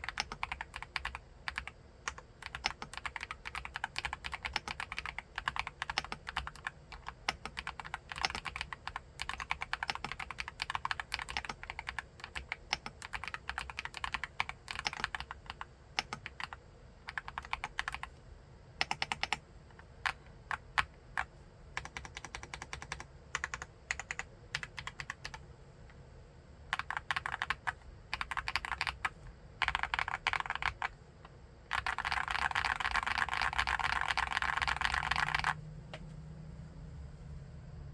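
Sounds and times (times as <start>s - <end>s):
typing on mechanical keyboard: 0.0s - 18.1s, 18.8s - 19.4s, 20.0s - 25.4s, 26.7s - 31.0s, 31.7s - 35.6s.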